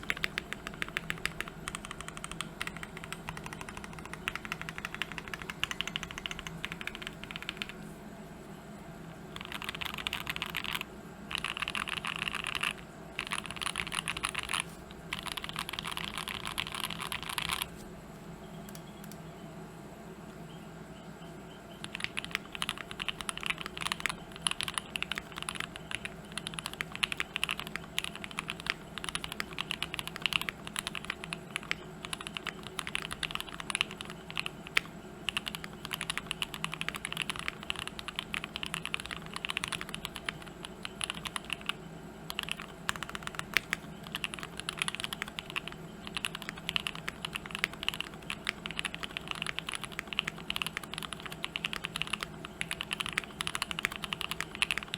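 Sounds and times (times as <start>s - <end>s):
typing on mechanical keyboard: 0.0s - 7.8s, 9.3s - 17.7s, 21.8s - 54.9s.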